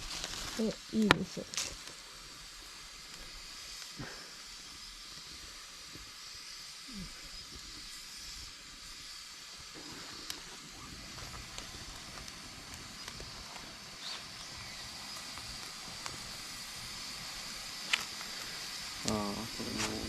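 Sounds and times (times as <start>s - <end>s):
burning wood popping: 0.0s - 20.0s
campfire hissing: 0.0s - 20.0s.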